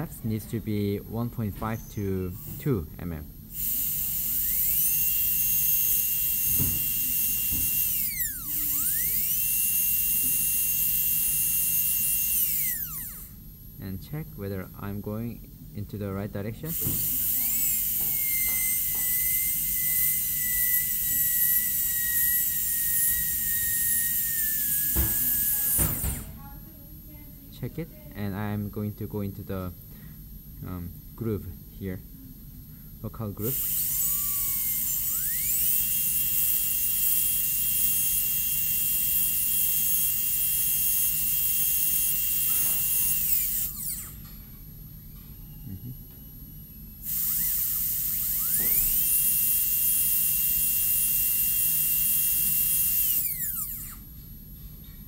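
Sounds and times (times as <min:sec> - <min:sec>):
dental drill whining: 0:00.0 - 0:26.6, 0:32.9 - 0:54.2.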